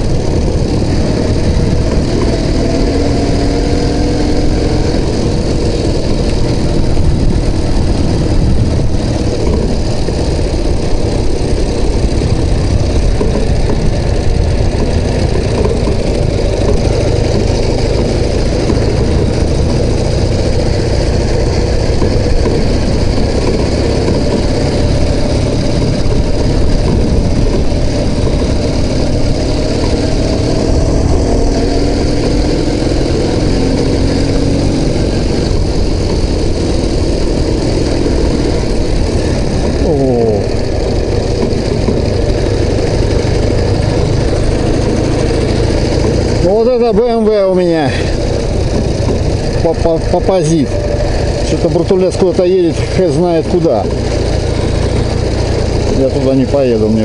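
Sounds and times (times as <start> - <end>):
wind noise on microphone: 0.0 - 46.7
motorcycle engine running: 0.0 - 57.0.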